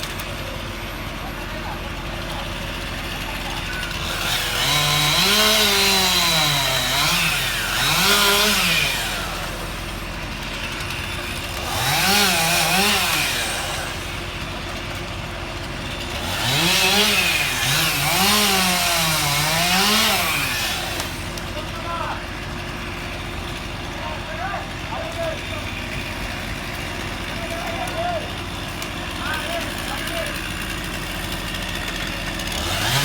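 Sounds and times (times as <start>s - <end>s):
chainsaw engine revving: 0.0s - 33.0s.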